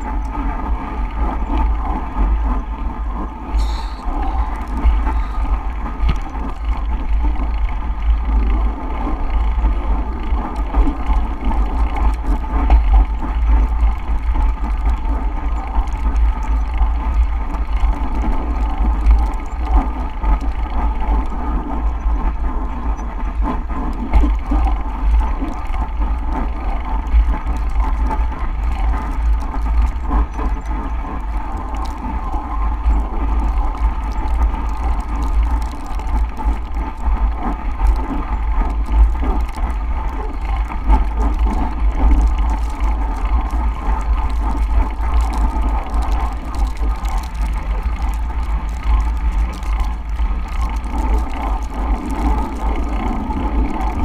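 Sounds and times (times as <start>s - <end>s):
bicycle tyres and drivetrain: 0.0s - 54.0s
wind rumble on microphone: 0.0s - 54.0s.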